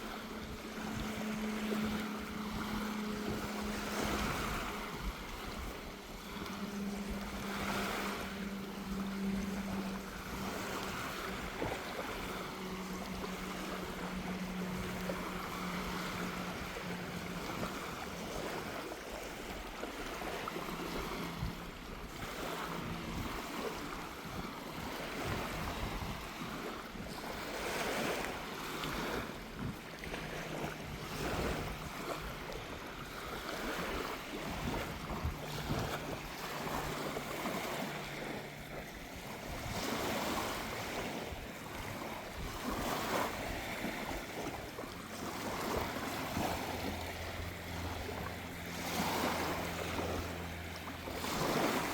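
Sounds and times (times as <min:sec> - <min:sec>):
small waves washing onto sand: 0:00.0 - 0:51.9.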